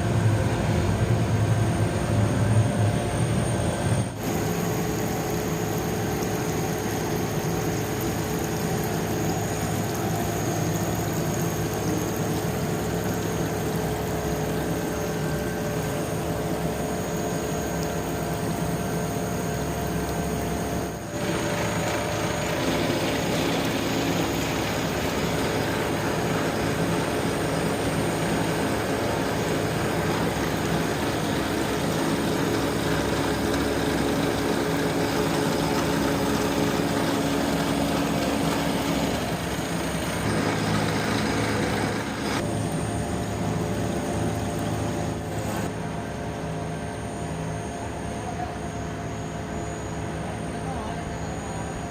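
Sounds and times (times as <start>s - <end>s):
factory machinery humming: 0.0s - 51.9s.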